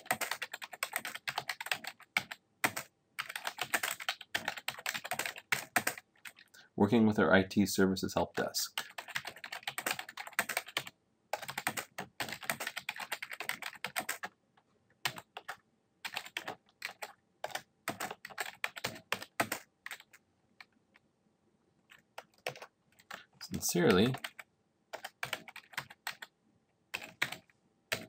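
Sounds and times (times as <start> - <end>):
typing on computer keyboard: 0.0 - 6.5, 8.8 - 14.3, 15.0 - 20.7, 21.9 - 23.3, 23.9 - 26.3, 26.9 - 28.0.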